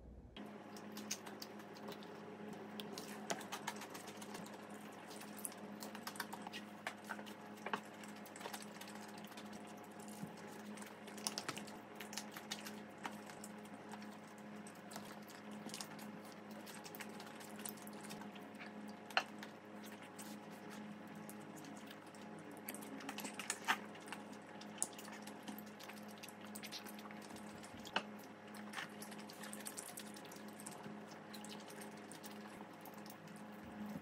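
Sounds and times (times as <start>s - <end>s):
faint steady hum: 0.0s - 34.0s
crunching fried chicken: 0.4s - 33.9s.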